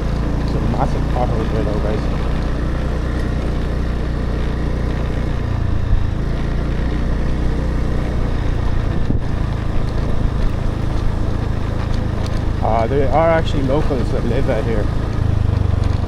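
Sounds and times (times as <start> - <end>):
motorbike engine running: 0.0 - 16.0
road and wind noise: 0.0 - 16.0.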